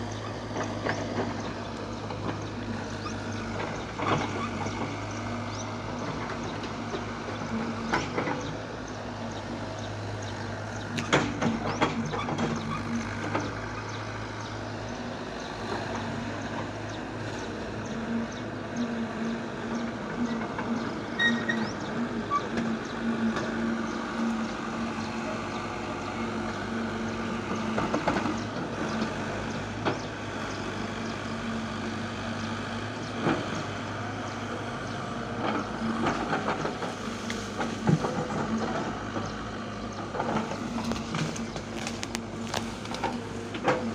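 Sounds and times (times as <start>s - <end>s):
heavy machine engine running: 0.0s - 43.9s.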